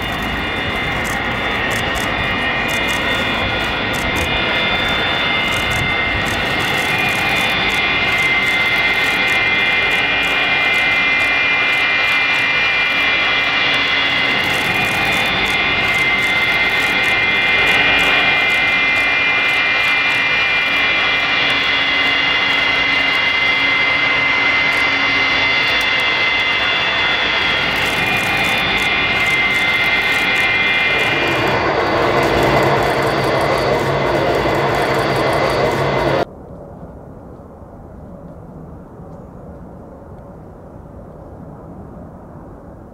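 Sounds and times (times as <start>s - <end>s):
low engine rumble: 0.0s - 36.3s
jet engine fan whine: 0.0s - 36.4s
jet engine noise: 0.0s - 42.9s.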